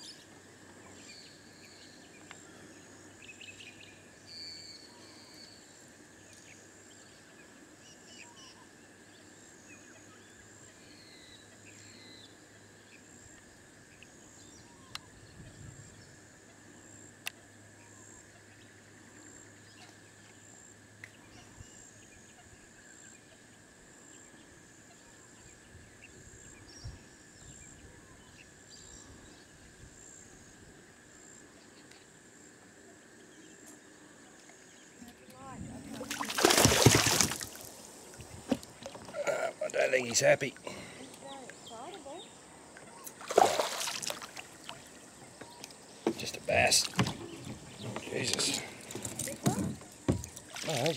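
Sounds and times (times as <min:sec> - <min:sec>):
high insect drone: 0:00.0 - 0:50.9.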